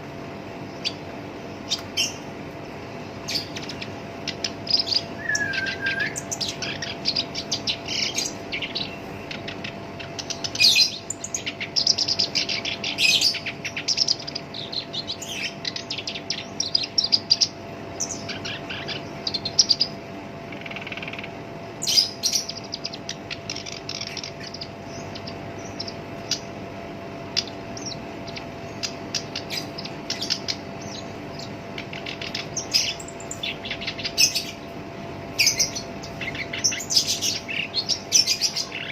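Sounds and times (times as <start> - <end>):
reed warbler chattering song: 0.0 - 38.9.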